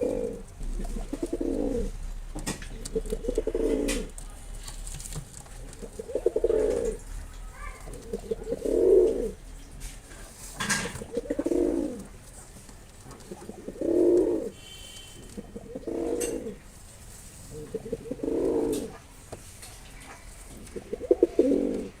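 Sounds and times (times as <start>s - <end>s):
pigeon cooing: 0.0s - 4.3s, 5.5s - 9.4s, 10.5s - 16.7s, 17.5s - 19.1s, 19.9s - 22.0s.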